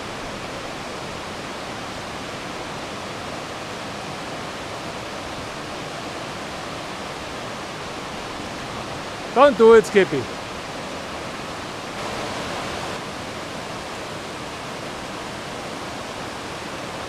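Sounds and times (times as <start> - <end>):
river rushing over cascades: 0.0 - 17.0.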